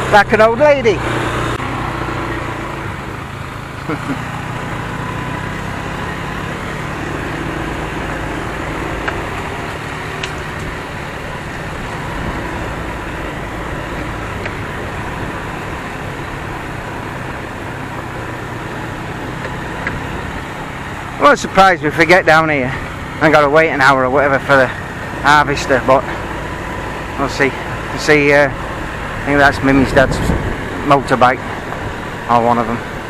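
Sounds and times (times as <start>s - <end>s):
road and wind noise: 0.0s - 33.0s
scooter engine running: 0.0s - 33.0s.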